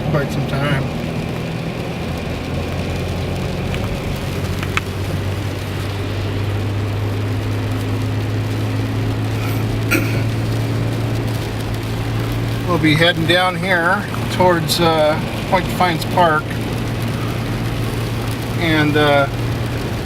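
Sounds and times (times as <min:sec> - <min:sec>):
car engine hum: 0:00.0 - 0:20.0
road noise: 0:00.0 - 0:20.0.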